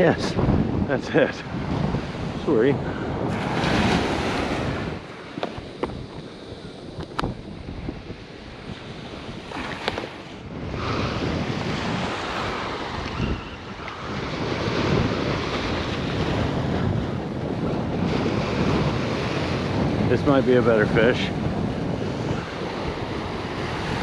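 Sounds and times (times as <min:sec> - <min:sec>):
small waves washing onto beach: 0:00.0 - 0:24.0
wind buffeting microphone: 0:00.0 - 0:24.0.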